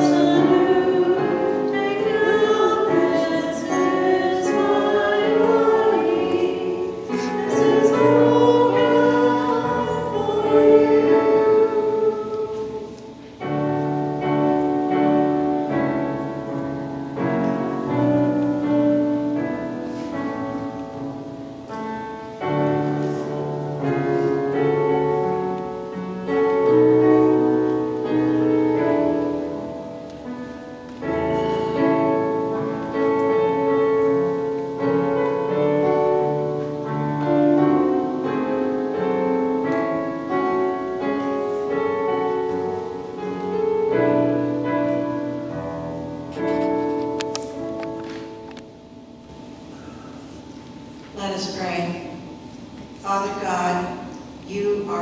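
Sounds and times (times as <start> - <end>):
slow piano chords: 0.0 - 55.0.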